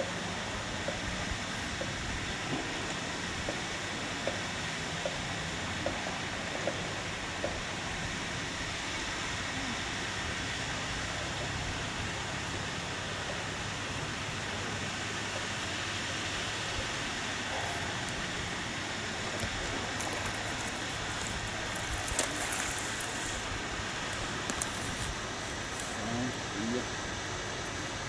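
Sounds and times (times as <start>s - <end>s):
rushing outdoor noise: 0.0s - 28.0s.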